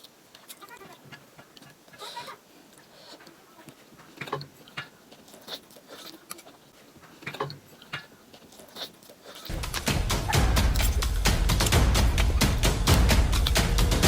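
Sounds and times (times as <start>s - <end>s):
mouth clicks: 0.0s - 14.0s
short crunches: 0.0s - 14.0s
person chewing: 2.7s - 14.0s.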